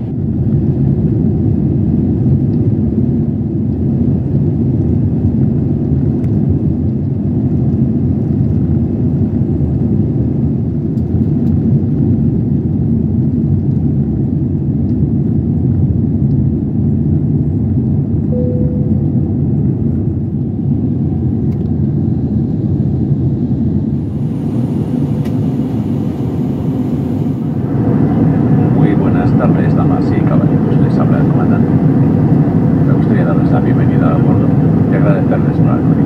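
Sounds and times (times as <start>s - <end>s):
jet engines rumbling in cabin: 0.0s - 36.0s.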